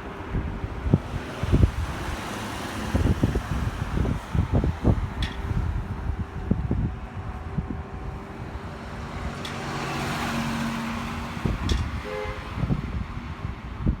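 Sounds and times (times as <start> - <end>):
vehicle passing by: 0.0 - 13.5
wind gusting against microphone: 0.0 - 14.0.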